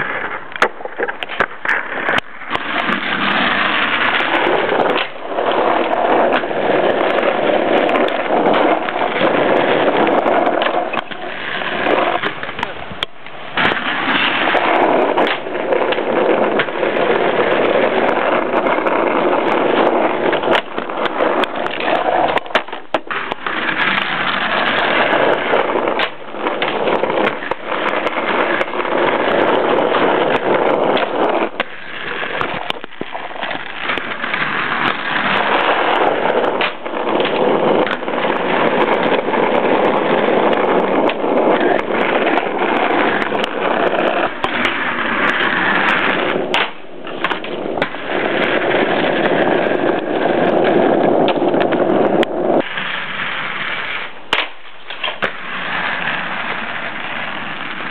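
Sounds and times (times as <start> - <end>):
inline skate wheels rolling on asphalt: 0.0 - 57.9.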